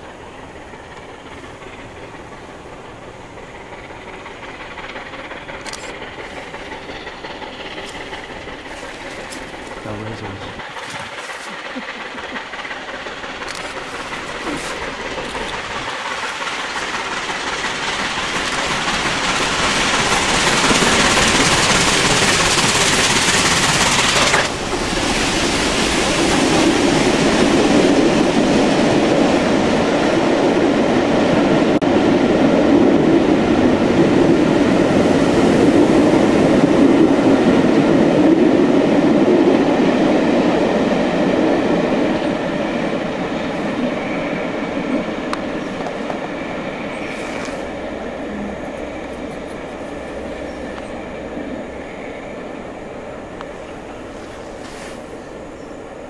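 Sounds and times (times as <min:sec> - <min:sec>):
loud steam hiss: 0:00.0 - 0:29.8, 0:40.2 - 0:55.5
wheels clacking over rail joints: 0:00.0 - 0:30.9, 0:32.7 - 0:52.0
steam locomotive passing: 0:00.0 - 0:56.0.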